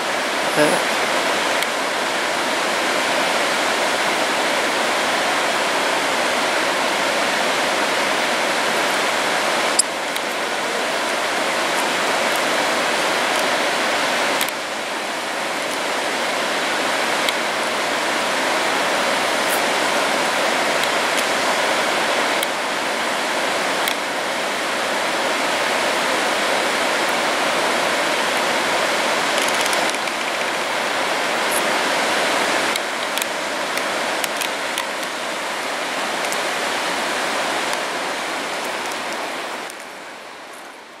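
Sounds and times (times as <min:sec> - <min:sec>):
mountain stream rushing: 0:00.0 - 0:41.0.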